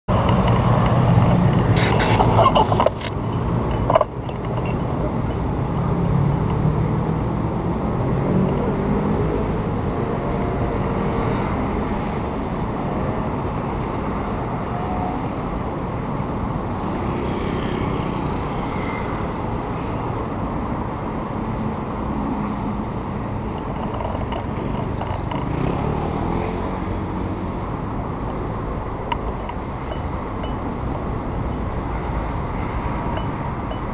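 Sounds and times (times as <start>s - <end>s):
cars and motorbikes passing: 0.1s - 33.9s.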